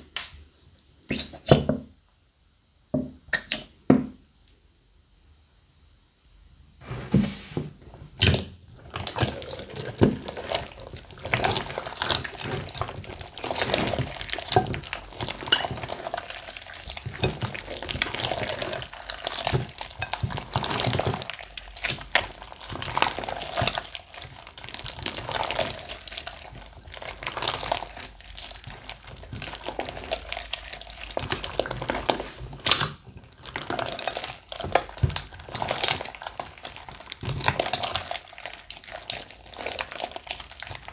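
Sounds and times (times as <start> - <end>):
slime squelching: 8.1 - 40.9.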